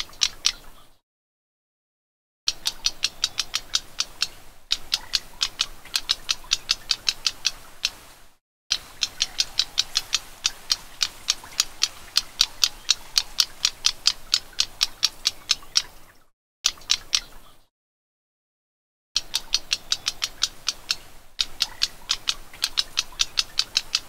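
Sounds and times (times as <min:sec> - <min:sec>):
bird ticking call notes: 0:00.0 - 0:00.7, 0:02.5 - 0:17.6, 0:19.2 - 0:24.0.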